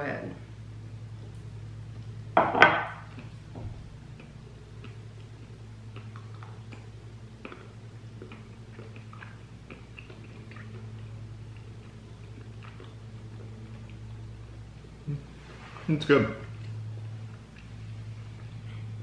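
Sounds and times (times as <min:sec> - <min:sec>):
steady low hum: 0:00.0 - 0:19.0
quiet chewing: 0:03.0 - 0:19.0.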